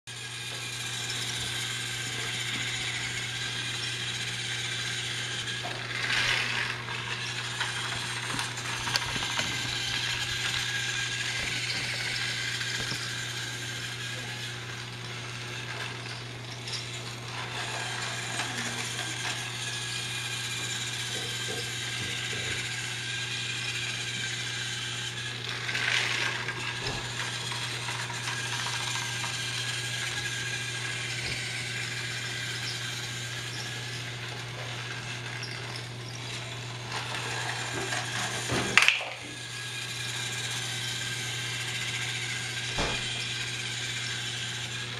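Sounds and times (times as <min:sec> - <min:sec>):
toy train motor whirring: 0:00.1 - 0:44.9.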